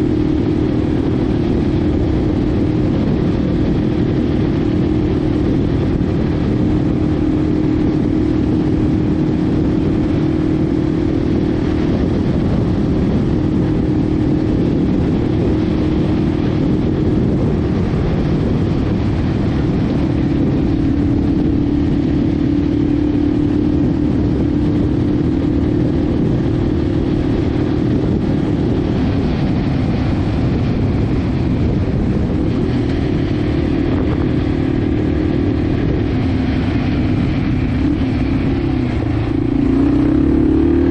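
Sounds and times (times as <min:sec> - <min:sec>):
motorcycle engine running: 0:00.0 - 0:40.9
rushing wind and road noise: 0:00.0 - 0:40.9.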